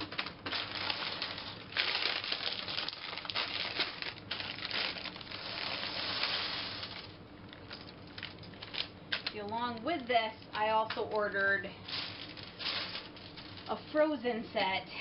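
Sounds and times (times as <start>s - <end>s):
plastic bag crinkling: 0.0s - 13.9s.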